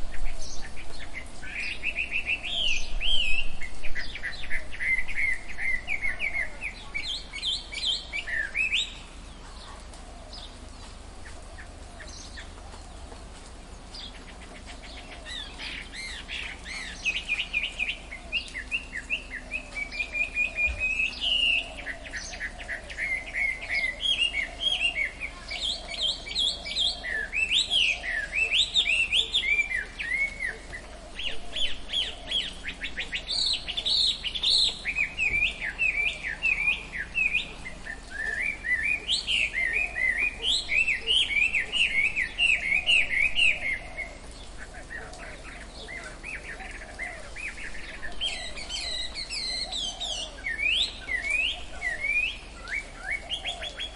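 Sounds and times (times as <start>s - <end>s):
forest birds chirping and calling: 0.0s - 53.9s.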